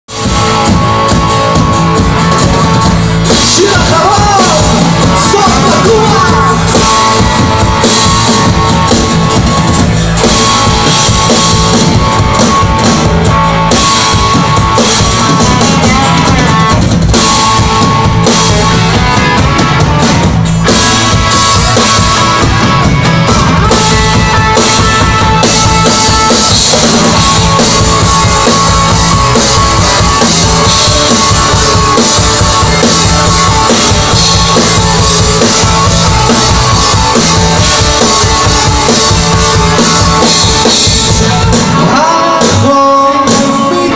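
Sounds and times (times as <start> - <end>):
drum kit: 0.1 - 43.9
electric and acoustic guitars: 0.1 - 43.9.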